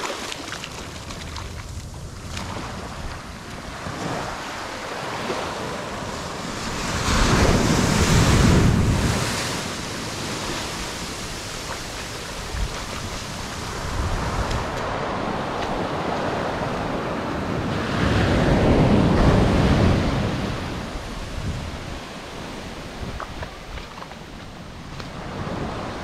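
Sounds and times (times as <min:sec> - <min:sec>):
small waves washing onto sand: 0:00.0 - 0:26.0
wind buffeting microphone: 0:00.7 - 0:26.0.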